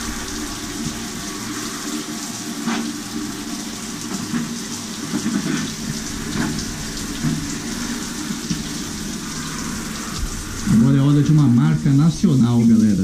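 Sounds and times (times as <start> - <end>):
shower water spraying on tiles: 0.0 - 13.0.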